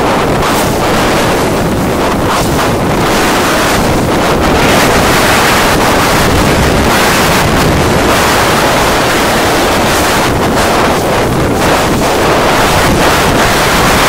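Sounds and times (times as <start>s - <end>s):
choppy sea water rushing: 0.0s - 14.0s
wind buffeting microphone: 0.0s - 14.0s.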